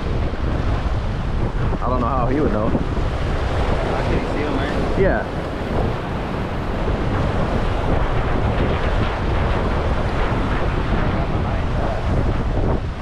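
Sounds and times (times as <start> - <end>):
waves splashing against rocks: 0.0 - 13.0
wind buffeting microphone: 0.0 - 13.0.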